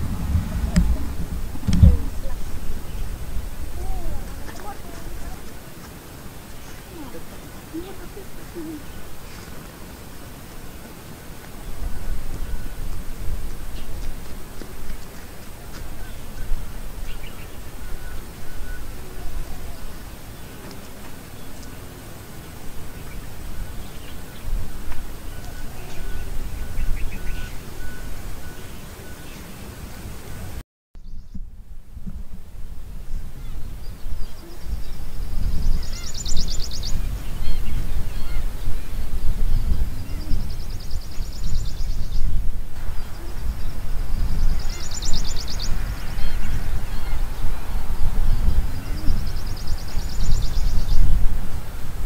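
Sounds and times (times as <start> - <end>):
small birds chirping: 0.0 - 31.4, 33.1 - 51.8
low uneven rumble: 0.0 - 52.0
wind buffeting microphone: 0.0 - 52.0.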